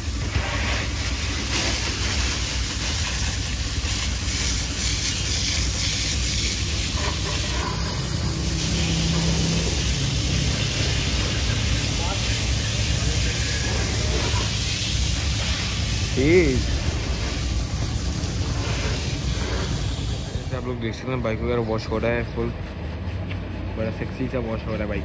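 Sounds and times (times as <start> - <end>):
hose water spraying and splashing: 0.0 - 20.8
steady low hum: 0.0 - 25.0.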